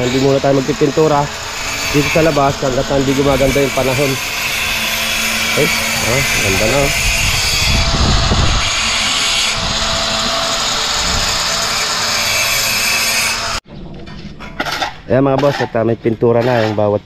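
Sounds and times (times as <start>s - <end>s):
masonry saw grinding stone: 0.0s - 13.6s, 14.6s - 17.0s.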